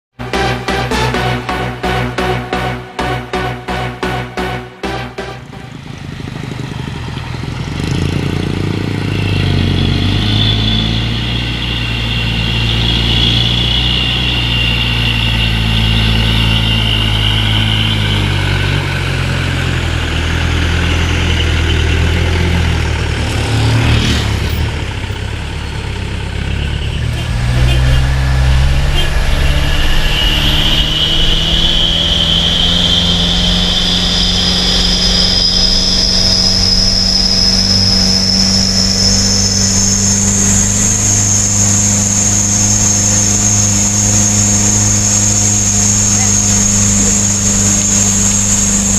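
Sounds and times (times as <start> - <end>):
truck diesel engine labouring: 0.1 - 48.9.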